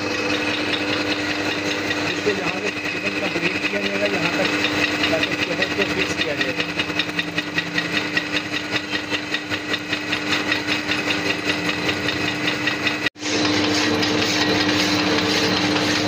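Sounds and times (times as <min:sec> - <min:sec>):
metal lathe humming and ticking: 0:00.0 - 0:16.0.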